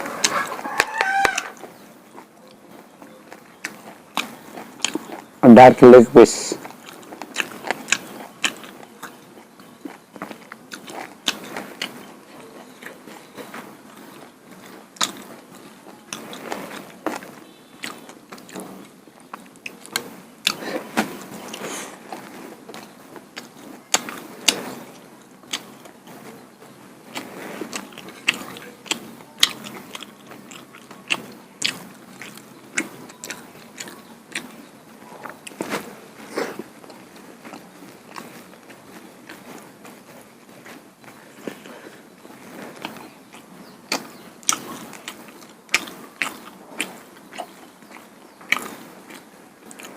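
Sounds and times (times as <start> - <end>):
person chewing food: 0.0 - 5.4, 6.5 - 49.9.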